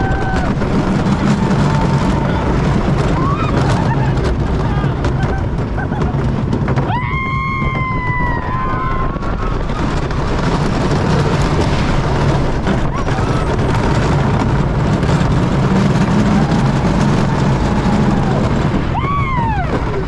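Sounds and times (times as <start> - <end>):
roller coaster wheels rumbling and rattling: 0.0 - 20.0
wind buffeting microphone: 0.0 - 20.0.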